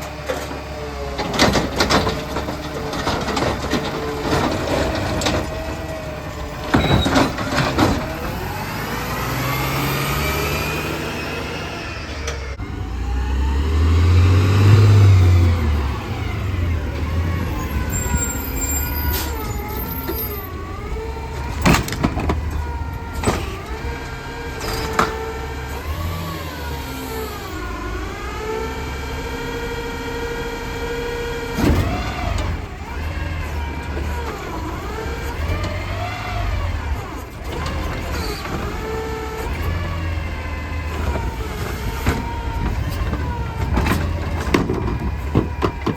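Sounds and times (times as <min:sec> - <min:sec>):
garbage truck diesel engine revving: 0:00.0 - 0:45.9.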